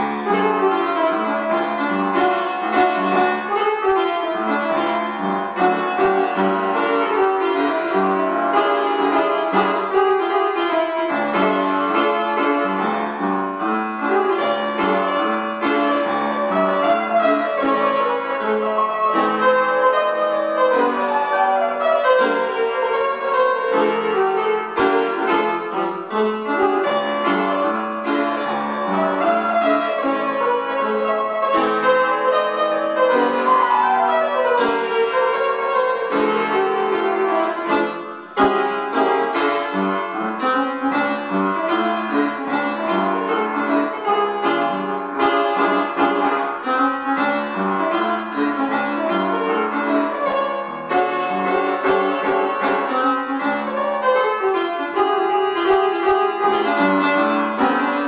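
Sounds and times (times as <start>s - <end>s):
fast piano piece: 0.0s - 58.0s.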